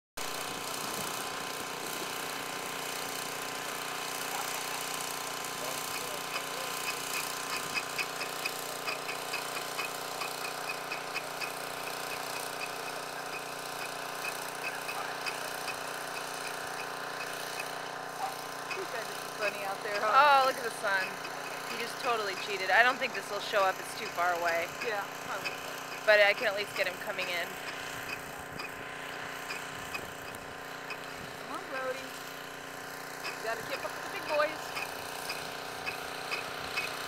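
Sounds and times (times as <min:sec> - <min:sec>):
motor hum: 0:00.2 - 0:37.0
rapid uneven clicking of pulleys: 0:00.3 - 0:37.0.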